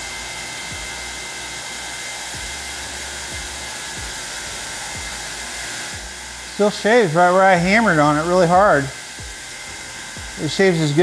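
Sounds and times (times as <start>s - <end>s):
fan rushing steadily: 0.0s - 11.0s.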